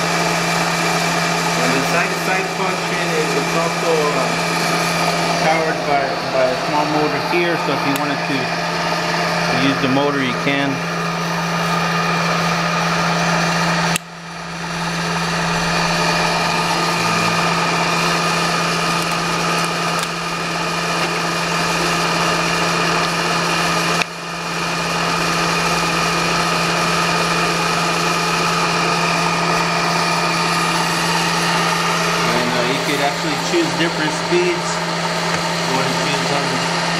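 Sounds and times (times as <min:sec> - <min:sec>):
machine power feed humming: 0:00.0 - 0:36.9.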